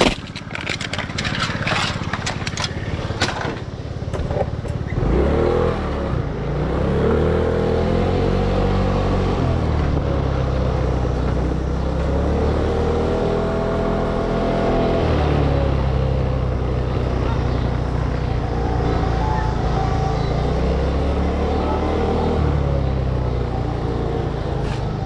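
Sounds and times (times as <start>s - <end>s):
vehicle engine accelerating: 0.5s - 25.0s.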